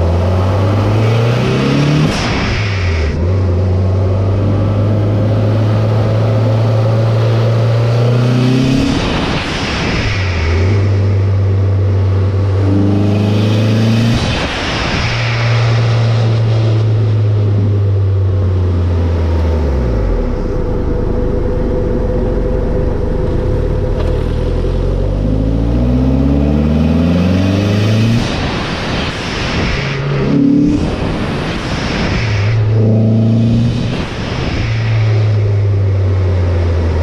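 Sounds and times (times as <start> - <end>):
turbocharged engine revving: 0.0 - 37.0.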